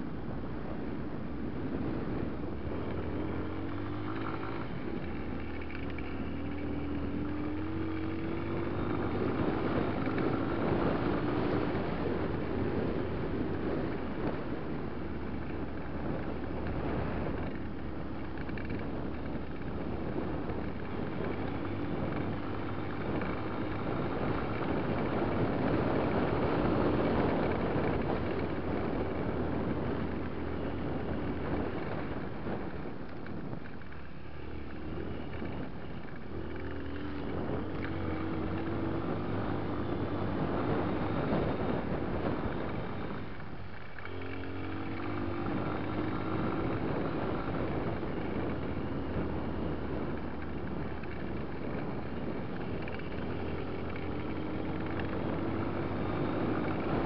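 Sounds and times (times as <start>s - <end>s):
wind buffeting microphone: 0.0s - 57.0s
motorcycle engine under load: 0.6s - 57.0s.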